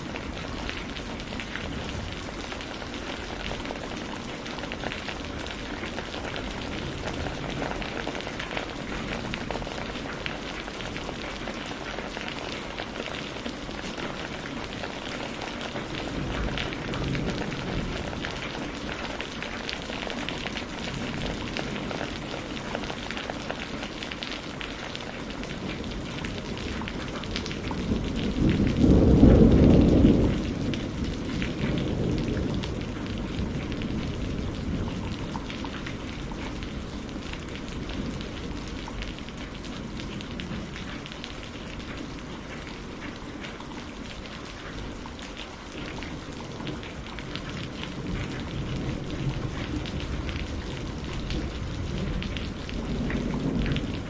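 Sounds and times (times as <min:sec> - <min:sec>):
thunder rumbling: 0:00.0 - 0:23.8, 0:24.8 - 0:43.4, 0:45.7 - 0:54.0
rain falling: 0:00.0 - 0:54.0.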